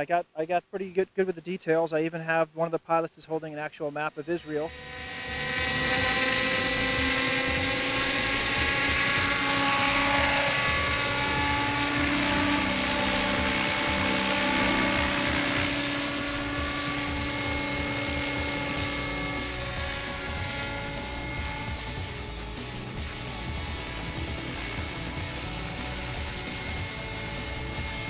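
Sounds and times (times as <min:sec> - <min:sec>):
model helicopter motor whine: 0:04.0 - 0:28.0
rotor noise: 0:04.0 - 0:28.0.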